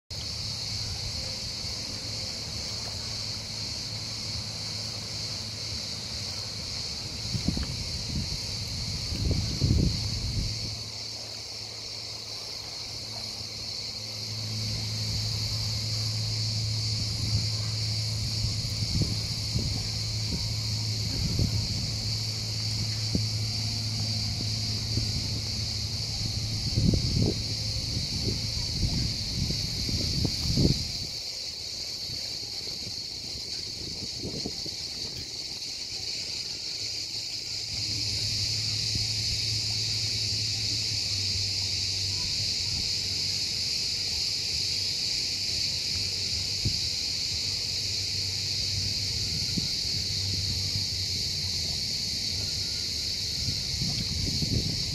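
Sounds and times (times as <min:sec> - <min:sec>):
cicadas buzzing: 0:00.1 - 0:54.9
low motor hum: 0:00.2 - 0:31.2, 0:36.9 - 0:54.9.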